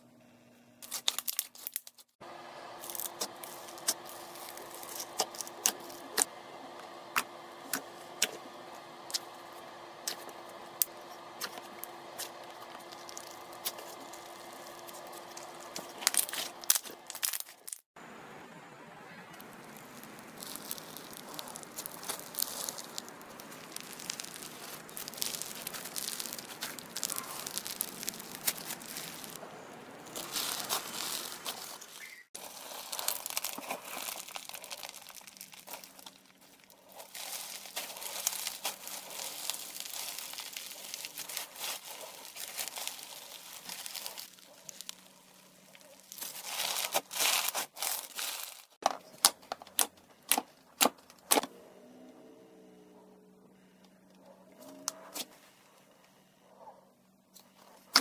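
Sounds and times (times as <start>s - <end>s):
slime crackling and crinkling: 0.8s - 18.0s, 19.2s - 51.4s.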